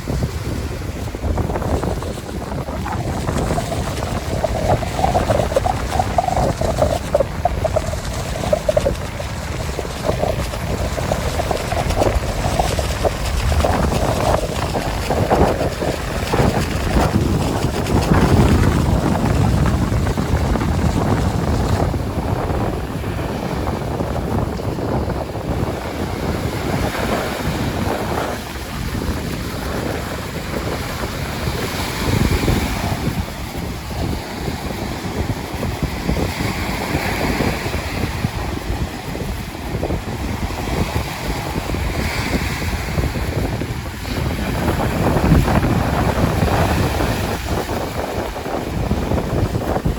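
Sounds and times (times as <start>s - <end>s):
surf breaking on beach: 0.0s - 49.9s
wind buffeting microphone: 0.0s - 49.9s.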